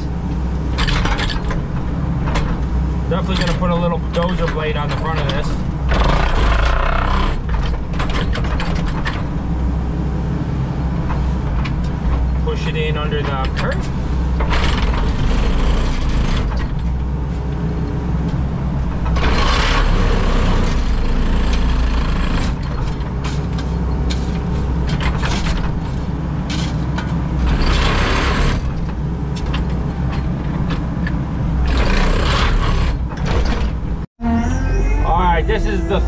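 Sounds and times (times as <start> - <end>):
hydraulics working: 0.0 - 34.1
excavator engine running: 0.0 - 36.0.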